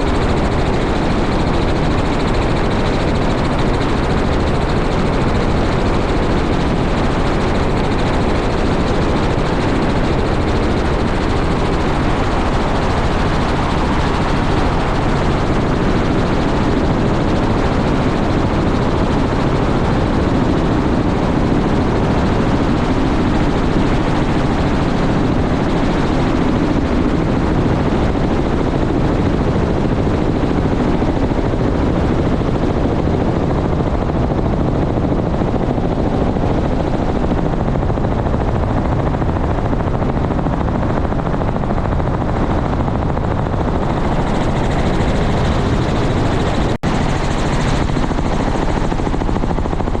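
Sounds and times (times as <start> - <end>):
helicopter running: 0.0 - 50.0.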